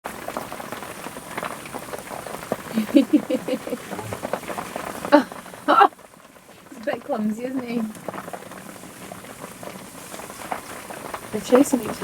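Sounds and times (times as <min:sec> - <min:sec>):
mud and water splashing: 0:00.1 - 0:12.0.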